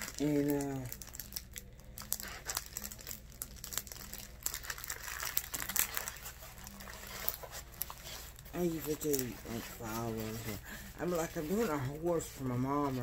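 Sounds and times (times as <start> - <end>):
plastic sheeting crinkling: 0.0 - 13.0.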